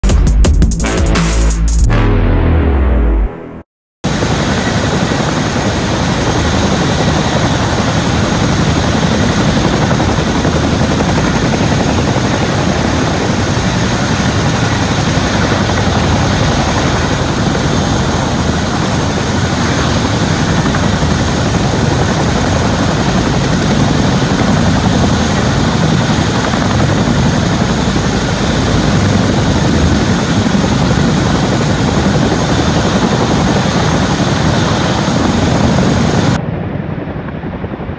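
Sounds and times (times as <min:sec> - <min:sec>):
helicopter rotors and engines: 0:04.0 - 0:37.9.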